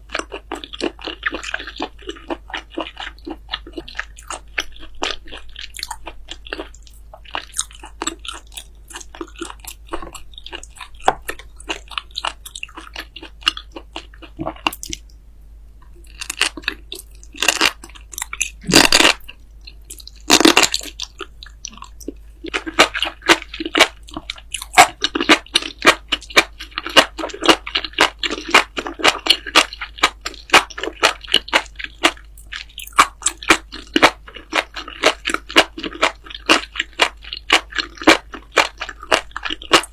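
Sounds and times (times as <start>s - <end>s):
person chewing crunchy food: 0.0s - 15.1s, 15.8s - 39.9s.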